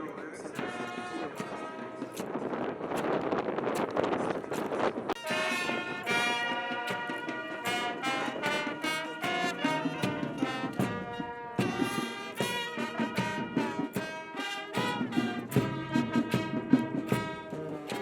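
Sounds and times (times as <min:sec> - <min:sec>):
trumpets and trombones: 0:00.0 - 0:18.0
steady drum beat: 0:00.5 - 0:18.0.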